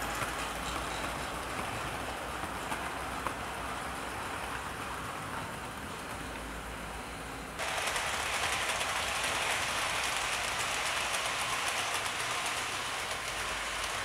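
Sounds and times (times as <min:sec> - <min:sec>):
model trains whirring on track: 0:00.0 - 0:14.0.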